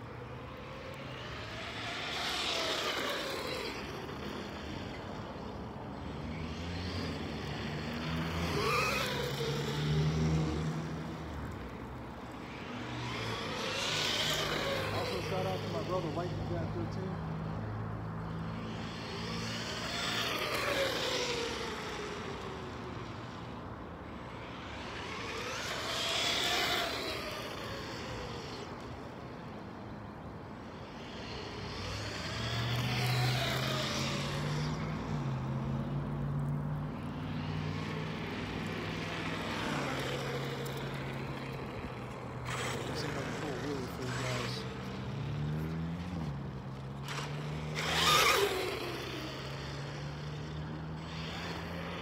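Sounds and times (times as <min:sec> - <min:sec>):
rc truck motor whine: 0:00.0 - 0:52.0.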